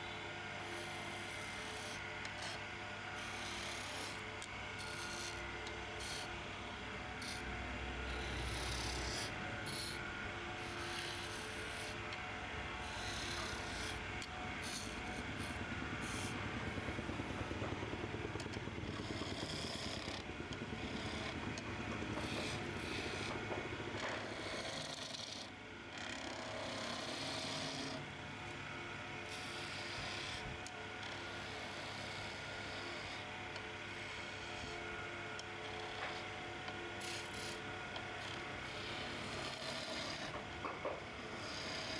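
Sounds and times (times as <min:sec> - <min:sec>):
lathe tool scraping spinning wood: 0:00.0 - 0:28.6, 0:29.2 - 0:41.9.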